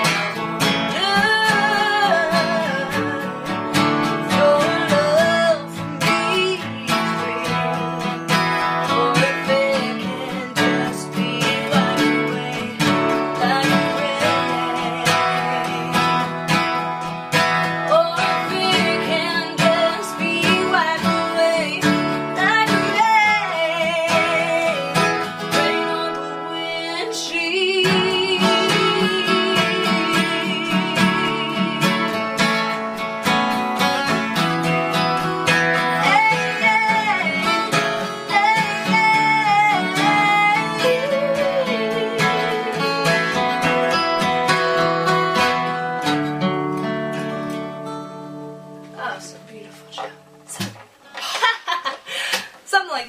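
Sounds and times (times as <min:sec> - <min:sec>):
acoustic guitar strumming chords: 0:00.0 - 0:51.1.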